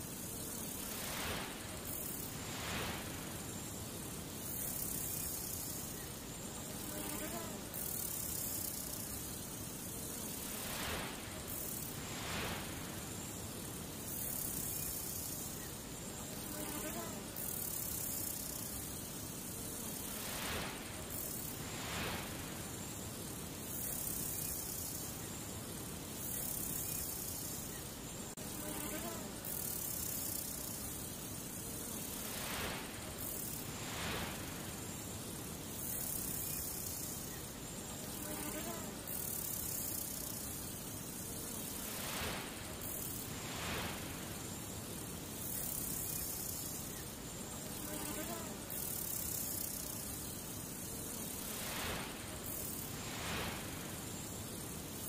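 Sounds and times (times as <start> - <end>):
steady hiss and low rumble: 0.0 - 55.0.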